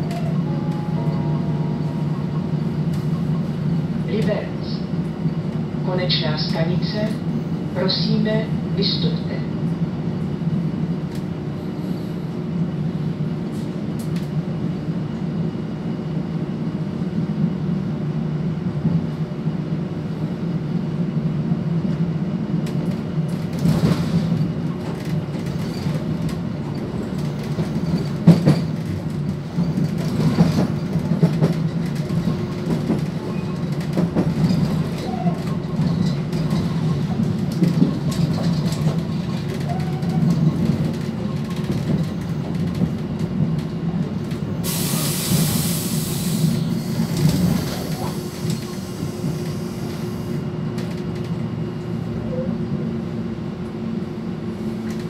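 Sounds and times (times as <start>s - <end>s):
railcar engine drone: 0.0s - 55.0s.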